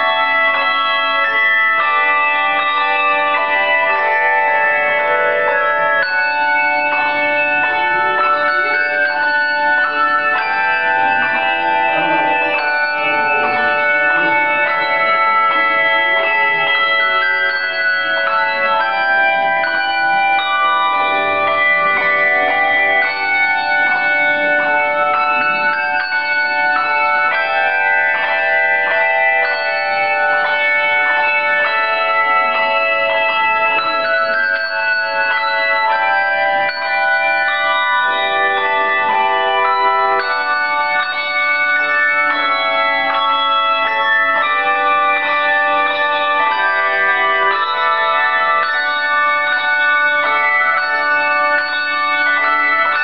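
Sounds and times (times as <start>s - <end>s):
handbell choir ringing: 0.0s - 53.0s.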